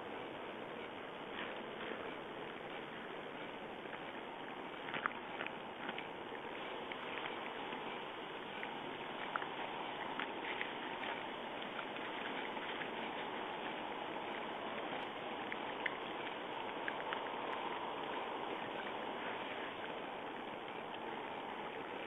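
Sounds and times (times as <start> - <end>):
animals foraging clicks and crunches: 0.0 - 22.0
steady outdoor hiss: 0.0 - 22.0.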